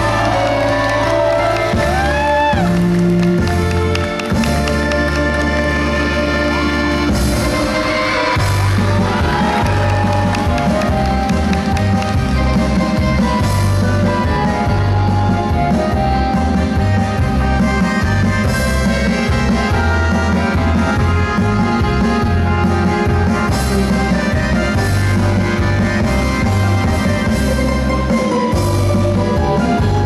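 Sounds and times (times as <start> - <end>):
folk dance music: 0.0 - 30.0.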